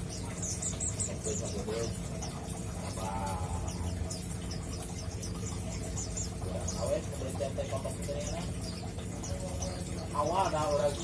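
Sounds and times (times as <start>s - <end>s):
bird twittering high chirps: 0.0s - 11.0s.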